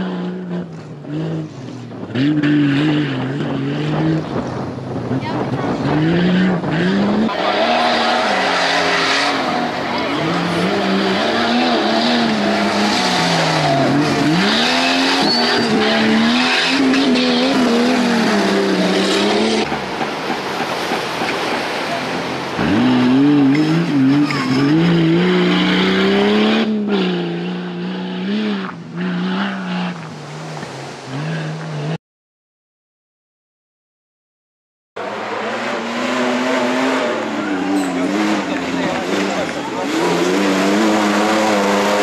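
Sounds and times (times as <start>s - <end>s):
race vehicle engines revving: 0.0s - 32.0s, 35.0s - 42.0s.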